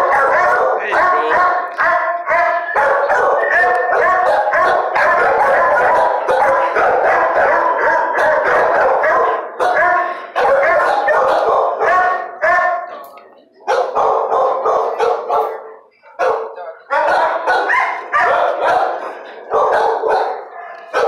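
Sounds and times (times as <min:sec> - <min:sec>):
dogs howling: 0:00.0 - 0:12.9, 0:16.2 - 0:21.0
dogs barking: 0:00.0 - 0:13.0, 0:13.6 - 0:21.0.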